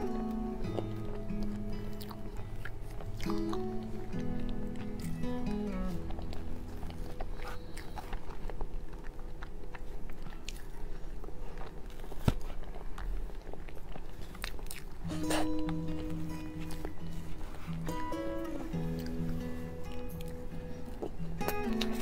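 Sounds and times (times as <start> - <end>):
person chewing soft cake: 0.0 - 22.0.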